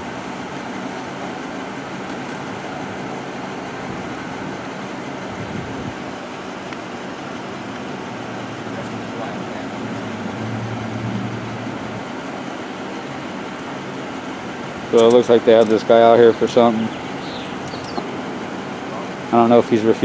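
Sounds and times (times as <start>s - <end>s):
road traffic noise: 0.0s - 20.0s
vehicle engines idling: 0.0s - 20.0s.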